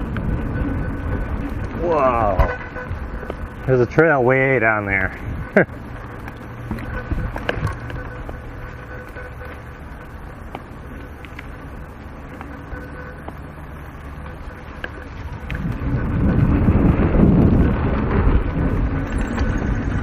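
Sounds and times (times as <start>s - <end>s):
bike rattling: 0.0s - 20.0s
bike tyre rumble on dirt: 0.0s - 20.0s.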